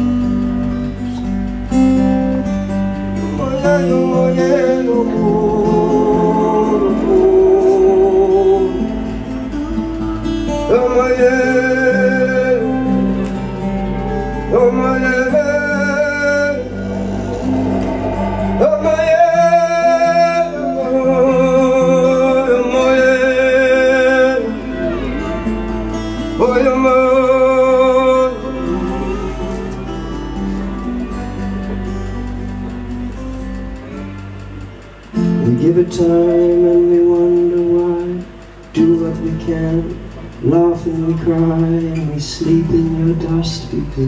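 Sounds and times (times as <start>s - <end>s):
acoustic guitar chords: 0.0s - 44.0s
person singing wordless notes: 3.2s - 9.8s, 10.5s - 44.0s.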